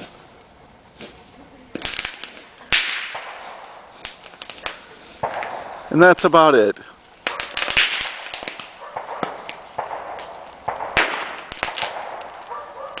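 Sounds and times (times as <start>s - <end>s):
hissing crackle: 0.0s - 13.0s
firecrackers popping: 0.9s - 13.0s
firework bang: 1.0s - 6.0s, 7.2s - 13.0s.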